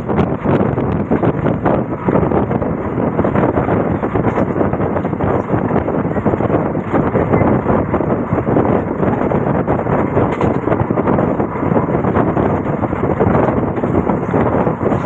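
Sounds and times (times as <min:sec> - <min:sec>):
train wheels rumbling and rattling: 0:00.0 - 0:15.0.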